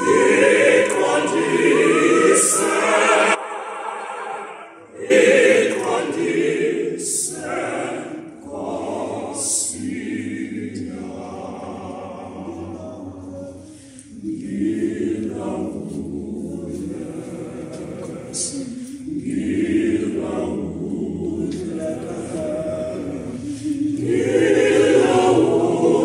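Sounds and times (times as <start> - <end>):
mixed choir singing a cappella: 0.0 - 26.0.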